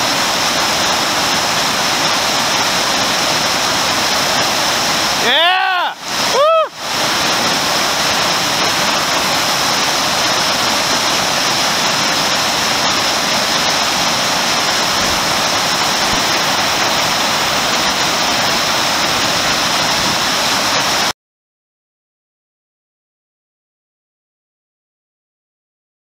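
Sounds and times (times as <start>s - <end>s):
whitewater rapid rushing: 0.0s - 21.1s.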